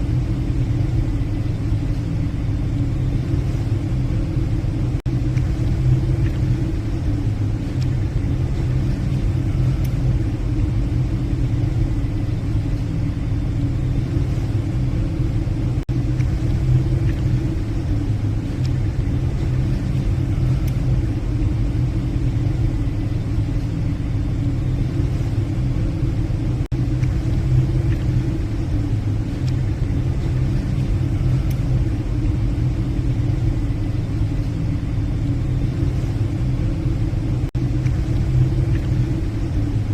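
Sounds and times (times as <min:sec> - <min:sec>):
ship engines droning: 0:00.0 - 0:39.9.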